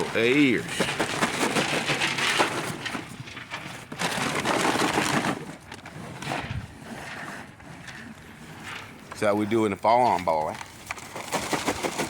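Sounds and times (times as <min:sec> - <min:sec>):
cattle crunching feed: 0:00.0 - 0:12.0.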